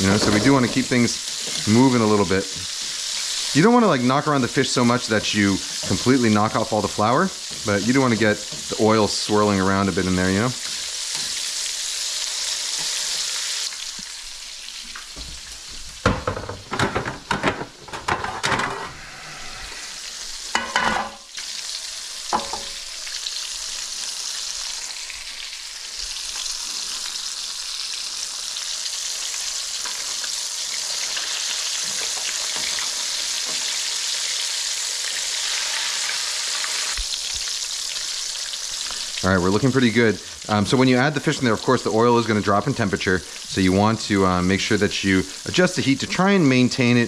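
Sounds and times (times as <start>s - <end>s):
deep-frying sizzle: 0.0s - 17.9s, 19.0s - 47.0s.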